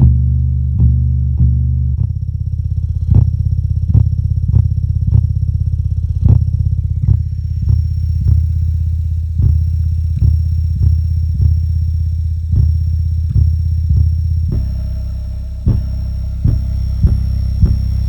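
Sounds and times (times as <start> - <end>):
bass-heavy music from speaker: 0.0 - 18.0.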